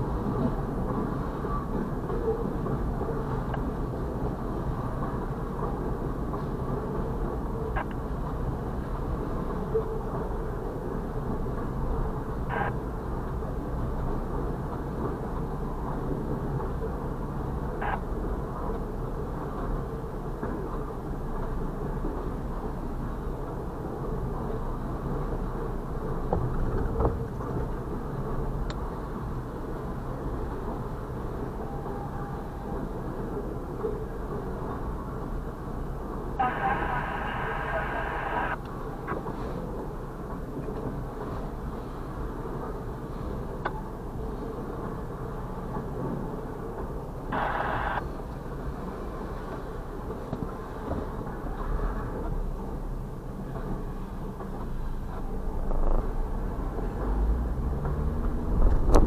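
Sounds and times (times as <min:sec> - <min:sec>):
freight train cars rumbling: 0:00.0 - 0:59.0.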